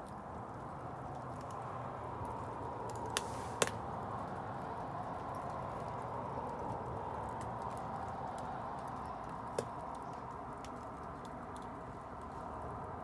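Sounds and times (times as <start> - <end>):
wood bonfire crackling: 0.0 - 13.0.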